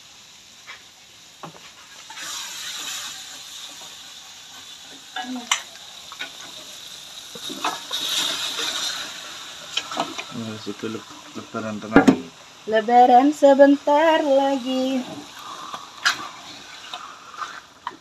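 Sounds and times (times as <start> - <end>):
paste sizzling in wok: 0.0 - 18.0.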